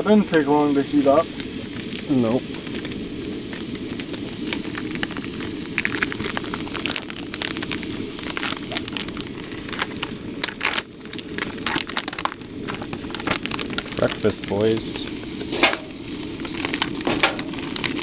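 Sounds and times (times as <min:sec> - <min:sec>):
sausages sizzling on griddle: 0:00.0 - 0:18.0
steady low hum: 0:00.0 - 0:18.0
plastic package crinkling: 0:01.4 - 0:18.0.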